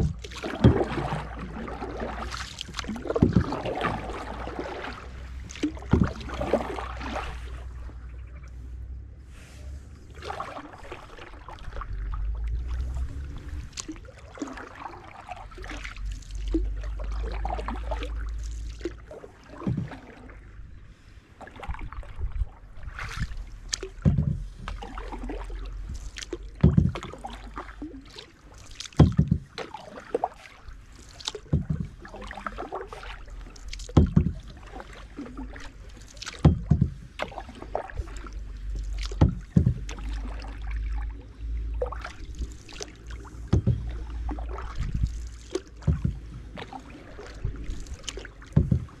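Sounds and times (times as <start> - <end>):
paddle splashing in water: 0.0 - 8.7, 9.3 - 49.0
low rumble: 0.0 - 28.0, 31.5 - 49.0.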